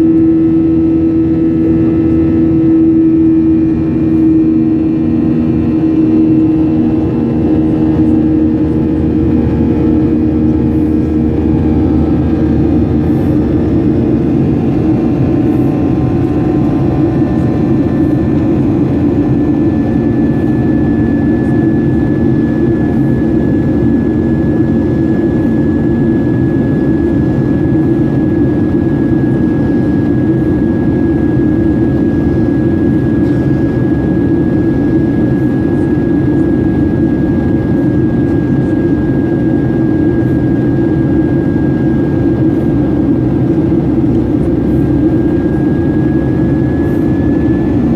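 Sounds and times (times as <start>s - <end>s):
high engine whine: 0.0s - 47.9s
jet engines rumbling: 0.0s - 47.9s.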